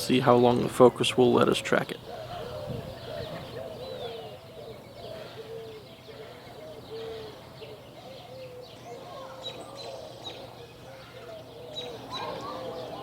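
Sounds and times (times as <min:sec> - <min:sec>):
low repeated bird calls: 0:00.0 - 0:13.0.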